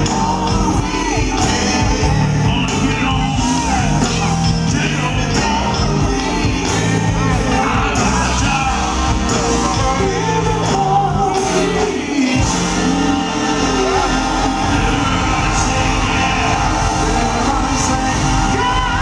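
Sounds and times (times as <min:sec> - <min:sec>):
live band with keyboards: 0:00.0 - 0:19.0
vocal group singing harmony: 0:00.0 - 0:19.0.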